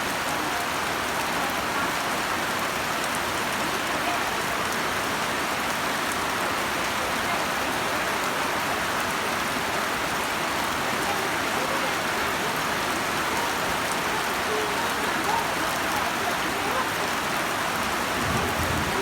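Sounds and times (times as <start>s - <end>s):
heavy rain hissing: 1.1s - 19.0s.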